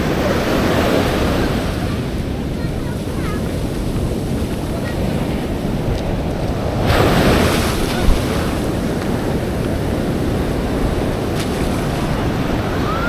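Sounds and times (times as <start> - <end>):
surf breaking on beach: 0.0 - 13.0
wind rumbling on microphone: 0.0 - 13.0.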